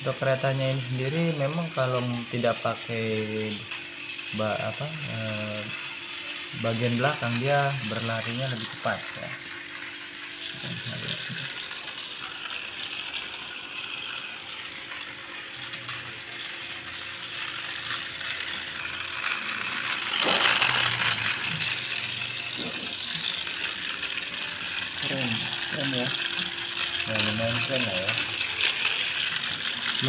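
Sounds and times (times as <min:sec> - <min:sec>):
toy train motor whirring: 0:00.0 - 0:30.0.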